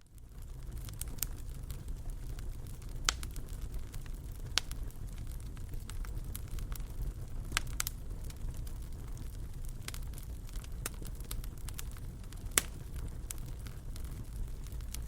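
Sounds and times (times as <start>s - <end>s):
fireplace fire crackling: 0.0s - 15.0s
low rumble of fire: 0.0s - 15.0s
sharp pops from fire: 0.1s - 15.0s.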